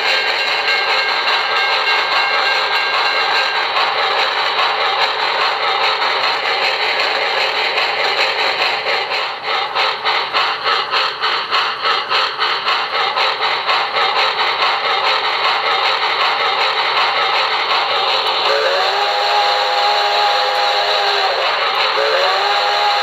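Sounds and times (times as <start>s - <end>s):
steam locomotive hiss and chuffing: 0.0s - 23.0s.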